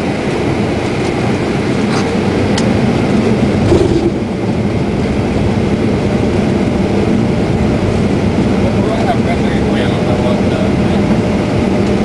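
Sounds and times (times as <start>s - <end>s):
aircraft rolling on runway: 0.2s - 12.0s
jet engines rumbling: 1.2s - 11.7s.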